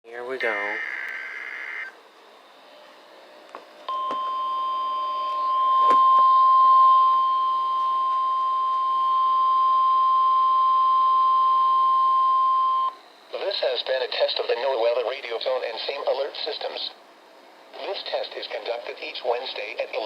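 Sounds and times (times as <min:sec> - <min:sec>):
steady high warning tone: 0:00.3 - 0:17.0.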